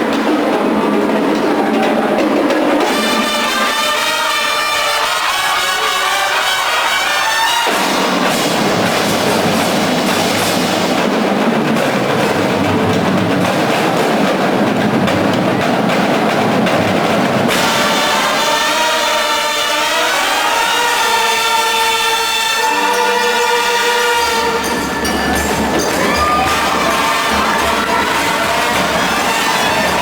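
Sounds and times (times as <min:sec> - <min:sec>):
brass instruments: 0:00.0 - 0:30.0
marching band drums: 0:00.0 - 0:30.0.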